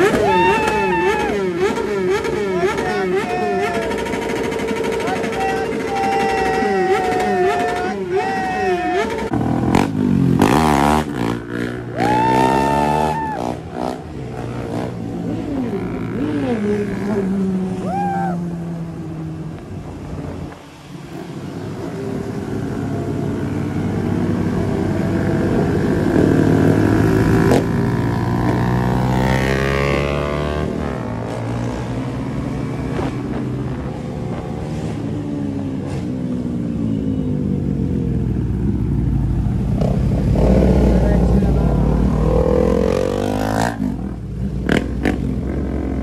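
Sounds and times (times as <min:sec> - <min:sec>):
second engine passing: 0:09.0 - 0:46.0.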